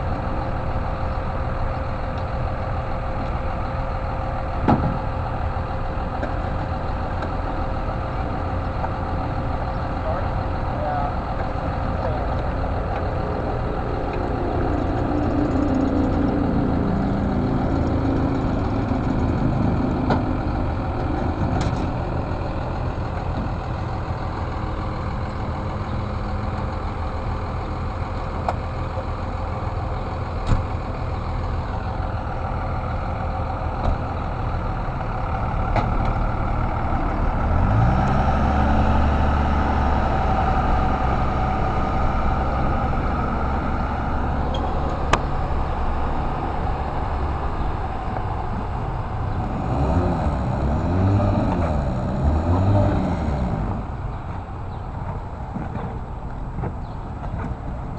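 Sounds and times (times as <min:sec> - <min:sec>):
truck engine idling: 0:00.0 - 0:57.9
truck engine revving: 0:00.0 - 0:57.9
engine knocks: 0:00.1 - 0:57.9.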